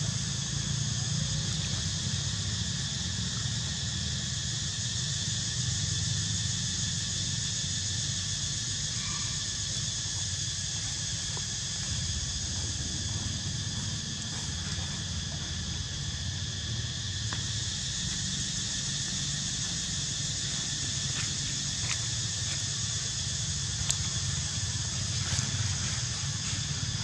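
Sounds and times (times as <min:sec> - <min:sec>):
continuous high hiss: 0:00.0 - 0:27.0.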